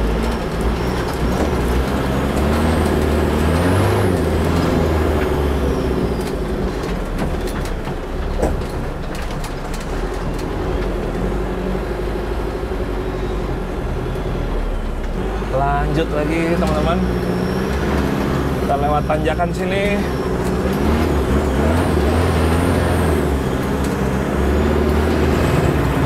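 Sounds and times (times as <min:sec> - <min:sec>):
truck knocks and rattles: 0:00.0 - 0:13.0, 0:13.6 - 0:26.0
diesel engine running: 0:00.0 - 0:26.0.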